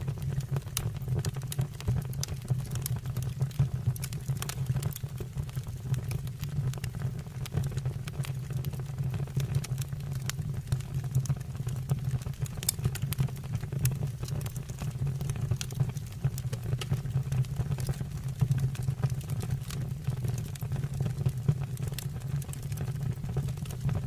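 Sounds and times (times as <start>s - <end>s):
burning wood crackling and popping: 0.0s - 24.0s
low rumble of flames: 0.0s - 24.0s.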